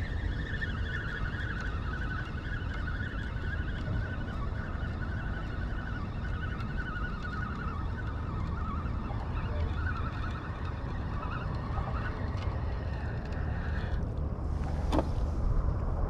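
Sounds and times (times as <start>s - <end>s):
fishing reel whirring: 0.0s - 14.0s
wind on microphone: 0.0s - 16.0s.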